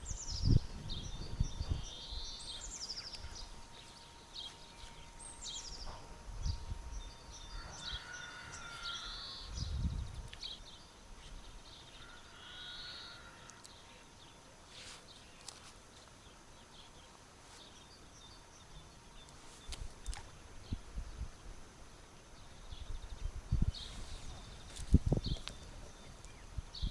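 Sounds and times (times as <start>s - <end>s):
birds calling and chirping: 0.0s - 21.2s, 22.3s - 26.9s.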